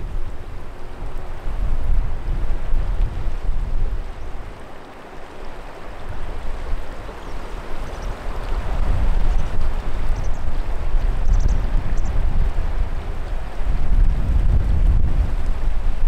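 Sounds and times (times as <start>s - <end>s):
choppy water lapping: 0.0s - 16.0s
wind rumbling on microphone: 0.0s - 16.0s.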